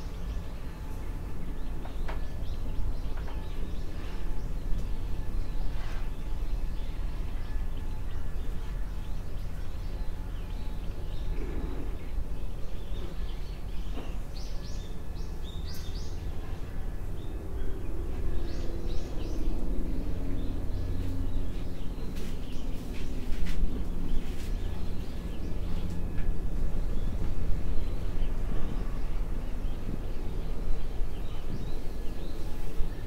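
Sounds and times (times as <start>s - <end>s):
birds chirping: 0.0s - 33.0s
steady low rumble: 2.4s - 33.0s.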